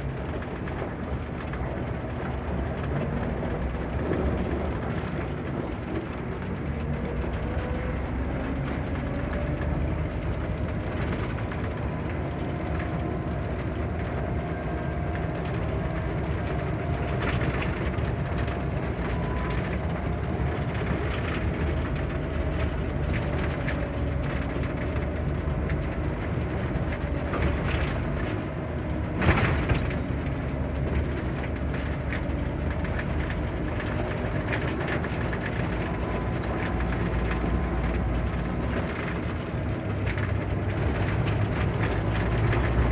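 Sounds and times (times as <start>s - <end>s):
bus diesel engine driving: 0.0s - 42.9s.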